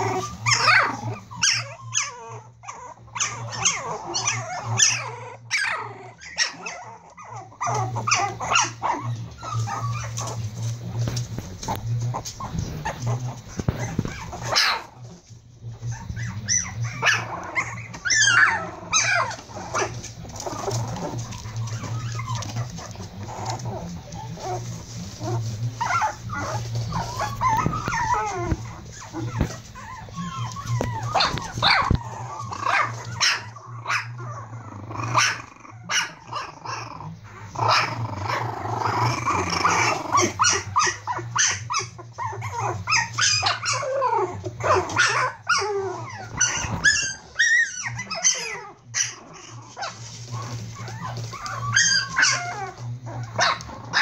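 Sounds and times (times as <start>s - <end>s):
puppies barking: 0.0s - 54.0s
puppies yipping and squealing: 0.0s - 54.0s
steady low hum: 0.0s - 54.0s.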